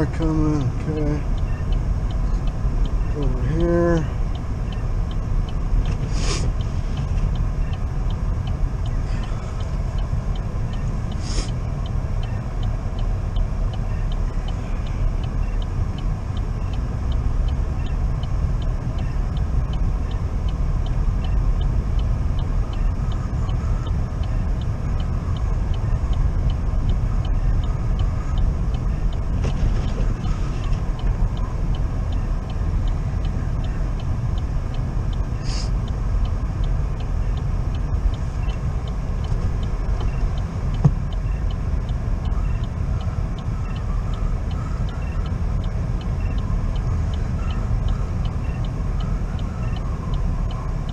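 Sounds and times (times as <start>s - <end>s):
car engine and tyres rumbling: 0.0s - 50.9s
faint even ticking: 0.0s - 50.9s.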